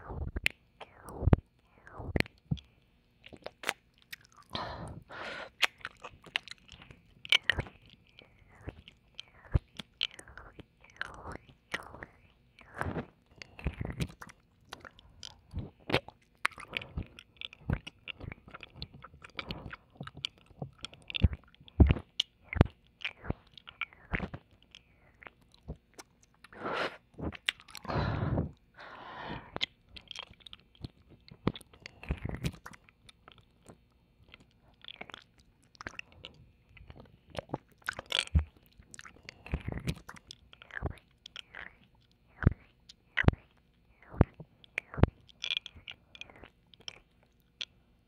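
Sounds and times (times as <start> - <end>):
tongue and lip clicks: 0.0 - 28.7, 29.4 - 47.9
slurping licks: 0.0 - 47.7.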